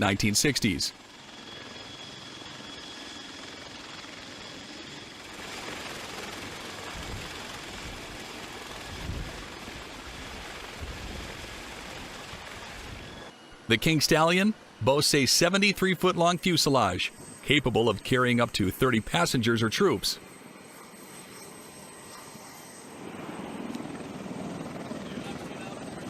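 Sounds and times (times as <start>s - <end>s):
helicopter turbine and rotor noise: 0.0s - 26.0s.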